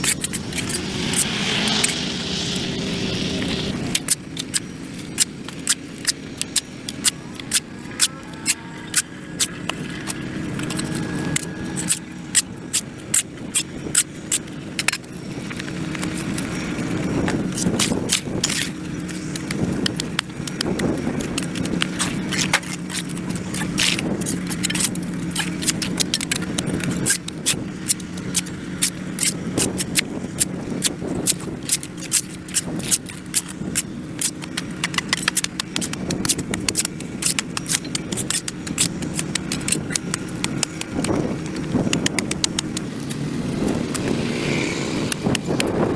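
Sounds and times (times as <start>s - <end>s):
hand tool scraping concrete: 0.0s - 45.9s.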